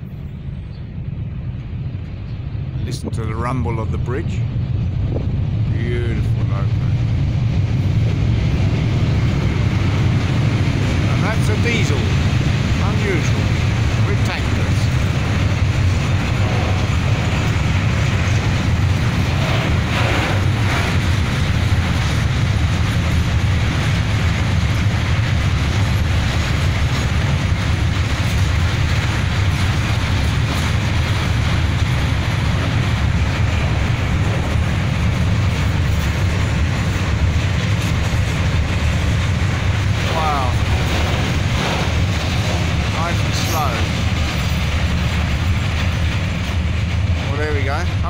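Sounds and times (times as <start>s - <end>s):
freight train rumbling over bridge: 0.0s - 48.0s.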